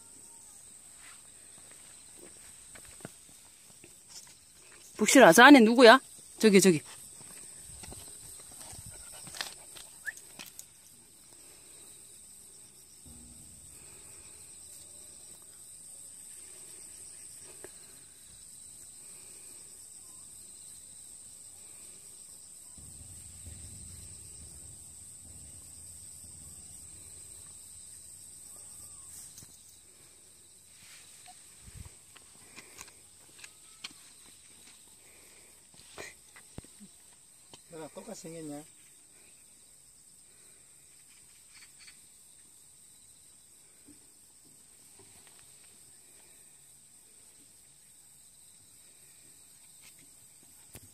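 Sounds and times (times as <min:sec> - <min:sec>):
insects chirring: 0:00.0 - 0:50.9.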